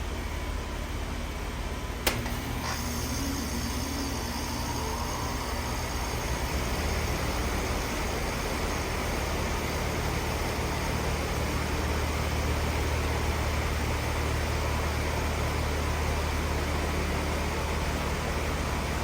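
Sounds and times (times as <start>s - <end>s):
heat pump compressor and fan whine: 0.0s - 19.0s.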